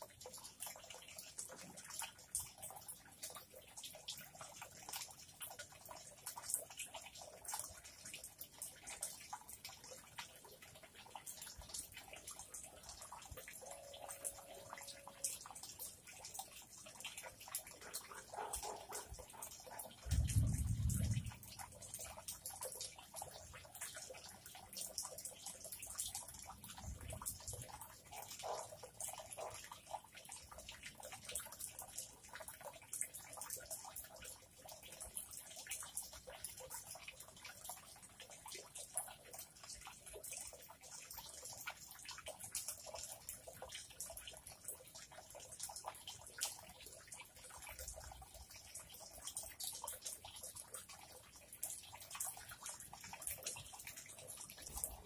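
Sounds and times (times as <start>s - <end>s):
water trickling and splashing: 0.0s - 55.0s.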